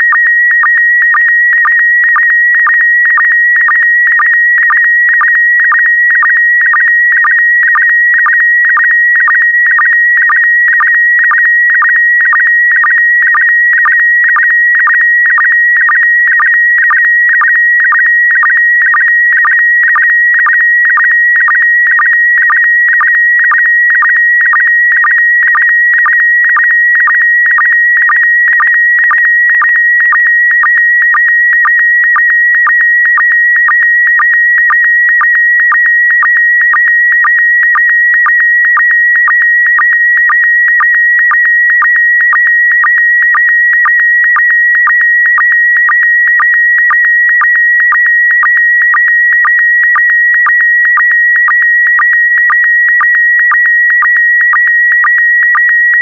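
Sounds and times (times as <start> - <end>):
warbling high tone signal: 0.0 - 56.0.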